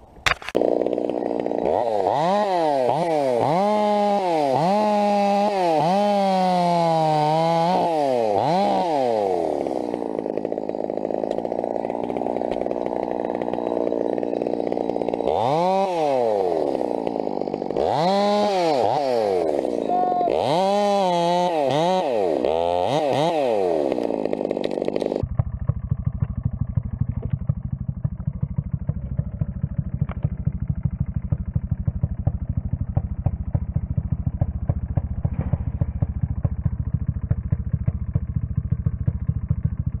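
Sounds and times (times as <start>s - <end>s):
chainsaw revving and idling: 0.0s - 40.0s.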